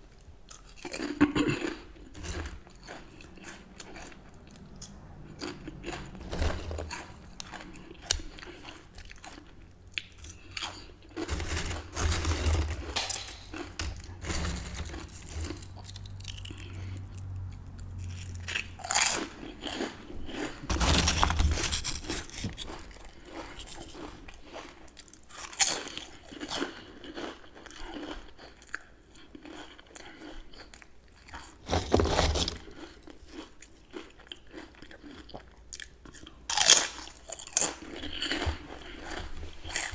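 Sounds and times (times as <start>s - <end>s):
crunching and chewing chips: 0.1s - 39.9s.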